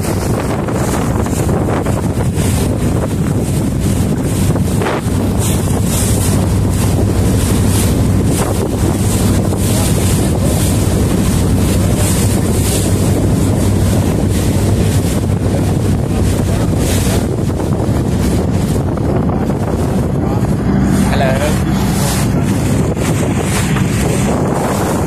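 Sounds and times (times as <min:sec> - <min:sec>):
motorboat engine droning: 0:00.0 - 0:25.0
water rushing past hull: 0:00.0 - 0:25.0
wind buffeting microphone: 0:00.0 - 0:25.0.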